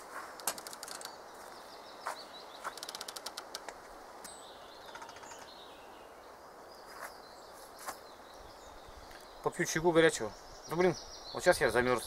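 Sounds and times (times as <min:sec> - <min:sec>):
small birds chirping: 0:00.4 - 0:12.0.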